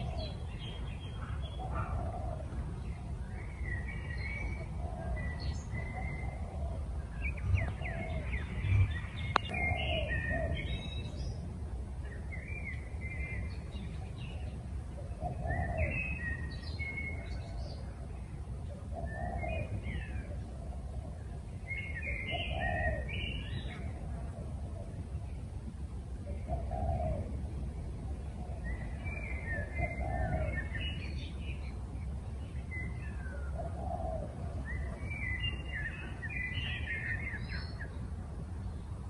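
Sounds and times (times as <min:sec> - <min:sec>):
lower rounder bird call: 0:00.0 - 0:25.5, 0:26.2 - 0:38.1
birds chirping and warbling: 0:00.0 - 0:39.0
low outdoor rumble: 0:00.0 - 0:39.0.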